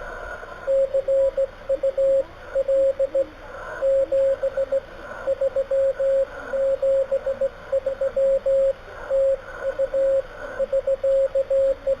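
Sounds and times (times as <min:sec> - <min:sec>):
radio band noise hiss: 0:00.0 - 0:12.0
morse code beeps: 0:00.7 - 0:12.0.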